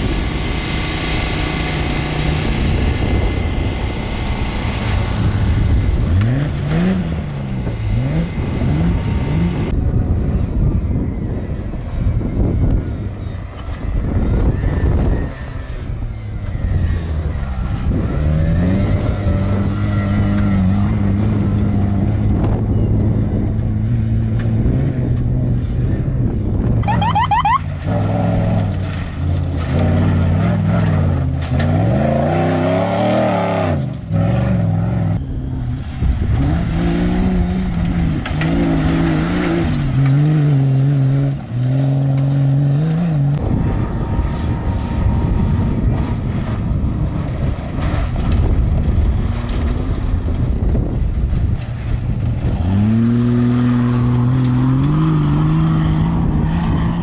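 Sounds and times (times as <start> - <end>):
race vehicle engines revving: 0.0 - 57.0.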